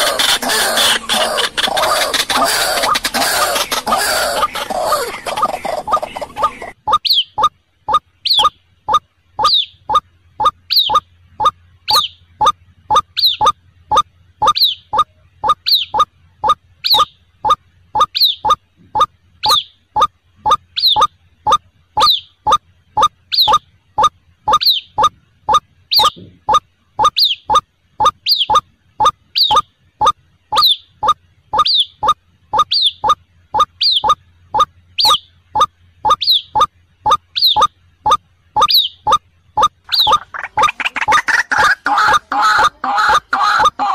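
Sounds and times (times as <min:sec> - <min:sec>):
bird chick peeping calls: 0:00.0 - 0:43.9.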